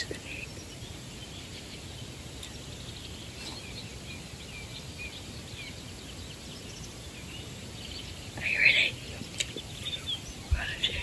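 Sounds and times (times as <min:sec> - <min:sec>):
birds chirping and whistling: 0:00.0 - 0:11.0
low background rumble: 0:00.0 - 0:11.0.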